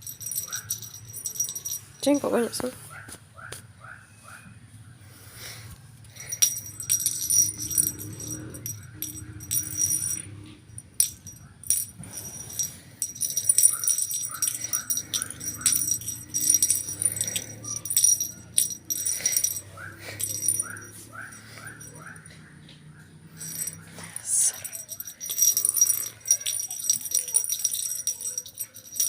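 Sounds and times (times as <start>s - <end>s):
small metal bell jingling: 0.0s - 2.7s, 6.0s - 29.0s.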